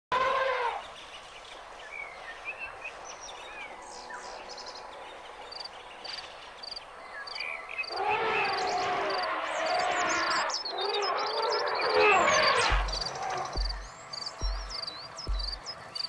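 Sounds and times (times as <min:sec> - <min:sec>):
birds chirping: 0:00.6 - 0:16.0.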